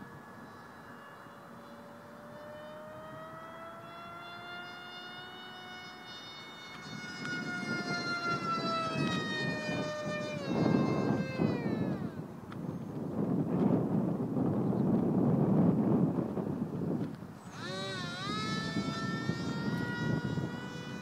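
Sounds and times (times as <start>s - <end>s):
model jet fans whining: 0.0s - 21.0s
wind buffeting microphone: 0.0s - 21.0s.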